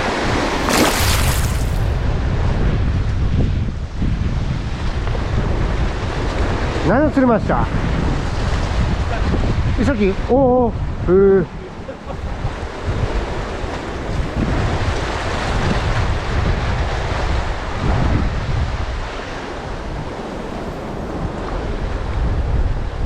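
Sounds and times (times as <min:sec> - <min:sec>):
sea surf against rocks: 0:00.0 - 0:23.0
wind buffeting microphone: 0:00.0 - 0:23.0.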